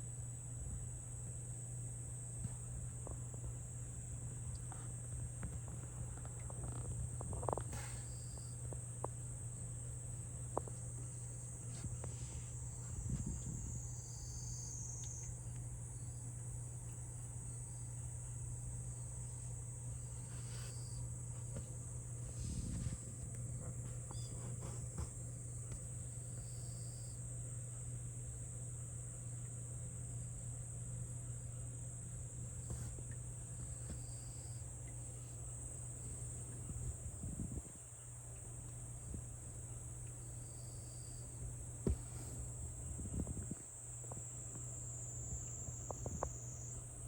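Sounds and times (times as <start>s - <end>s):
insects trilling: 0.0s - 47.0s
low steady hum: 0.0s - 47.0s.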